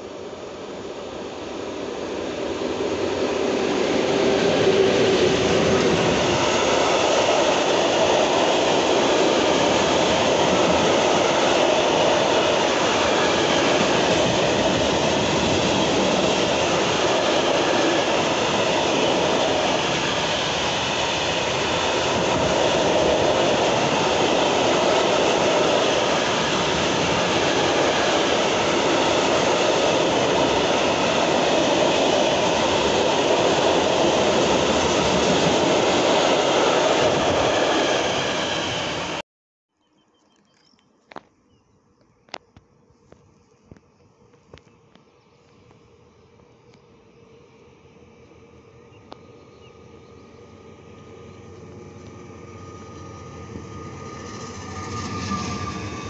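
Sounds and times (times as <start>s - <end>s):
freight train rolling past: 0.0s - 39.2s, 45.7s - 56.0s.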